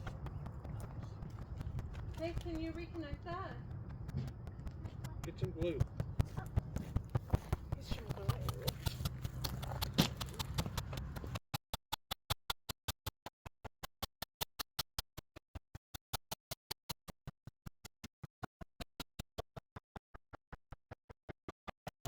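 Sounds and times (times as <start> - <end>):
sharp evenly spaced ticks: 0.0 - 17.7.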